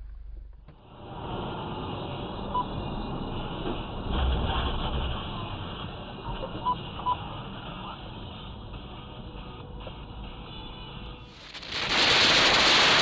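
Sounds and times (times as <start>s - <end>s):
car road and engine noise: 0.0s - 12.9s.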